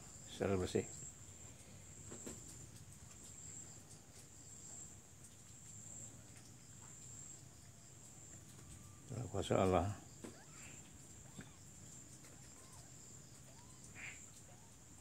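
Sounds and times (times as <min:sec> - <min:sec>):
high-pitched insect trilling: 0:02.5 - 0:15.0.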